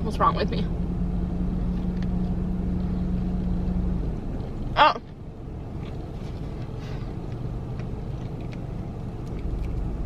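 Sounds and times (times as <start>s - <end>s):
low vehicle rumble: 0.0s - 10.0s.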